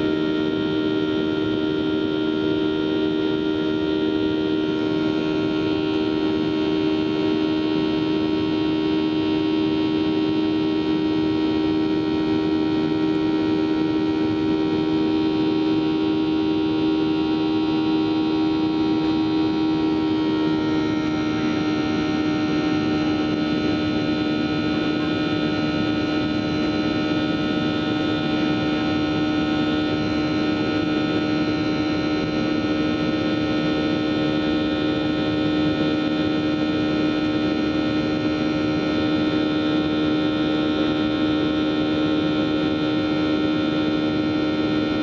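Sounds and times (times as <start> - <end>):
high engine whine: 0.0 - 45.0
jet engine drone in cabin: 0.0 - 45.0.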